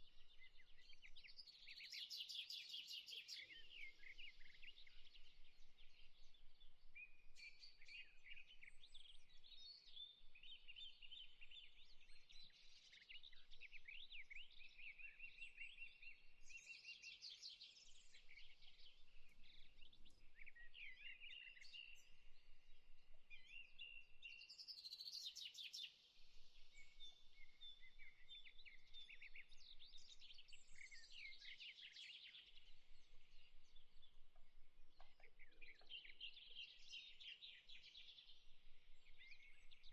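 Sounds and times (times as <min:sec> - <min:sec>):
small birds chirping and trilling: 0:00.1 - 0:39.9.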